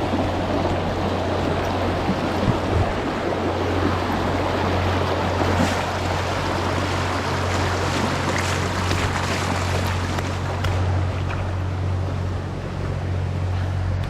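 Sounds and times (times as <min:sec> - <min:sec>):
flowing water rushing: 0:00.0 - 0:14.0
low hum: 0:00.0 - 0:14.0.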